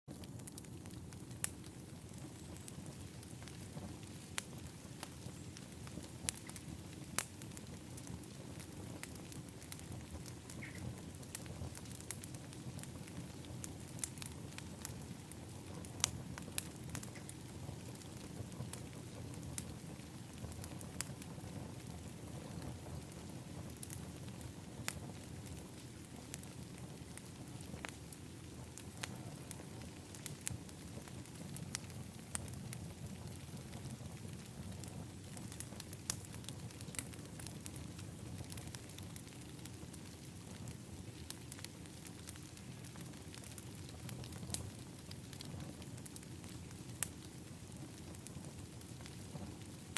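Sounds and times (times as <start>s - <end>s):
fire burning: 0.1s - 49.9s
fire crackling and popping: 0.1s - 49.9s.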